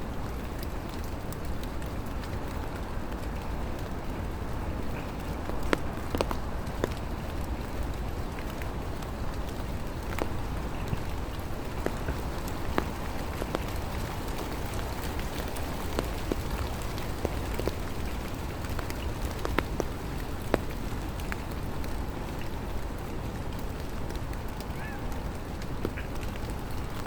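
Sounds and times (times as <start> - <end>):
rain hiss: 0.0 - 27.0
raindrops ticking close by: 0.0 - 27.0.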